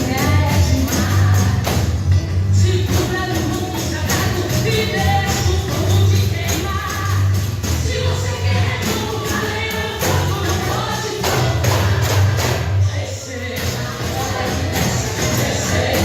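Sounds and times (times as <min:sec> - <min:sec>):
bass: 0:00.0 - 0:16.0
percussion strikes: 0:00.0 - 0:16.0
worship song with singing: 0:02.7 - 0:16.0.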